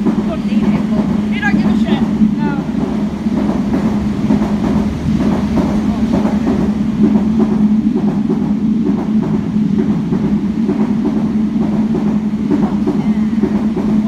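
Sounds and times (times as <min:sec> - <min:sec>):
freight train wagons on rails: 0:00.0 - 0:14.0.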